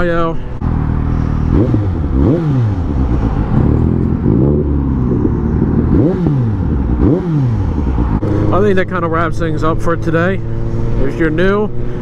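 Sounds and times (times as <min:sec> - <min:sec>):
vehicle engine revving: 0:00.5 - 0:12.0.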